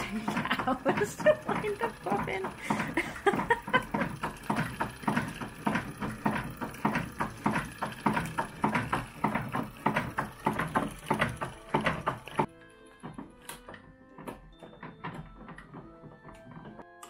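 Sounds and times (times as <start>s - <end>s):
sewing machine clattering: 0.0s - 16.9s.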